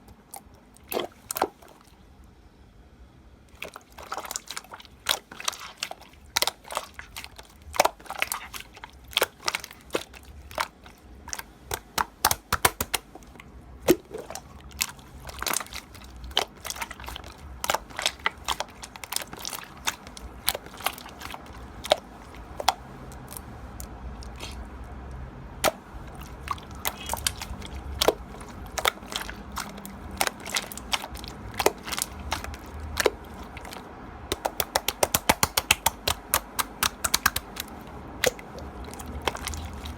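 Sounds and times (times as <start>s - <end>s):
slime squeezed by hand: 3.6s - 24.7s, 25.6s - 39.9s.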